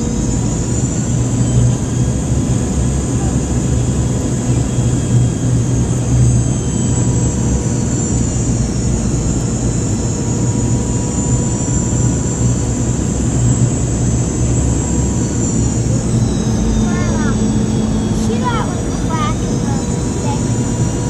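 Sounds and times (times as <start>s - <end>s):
jet engines roaring in cabin: 0.0s - 21.0s.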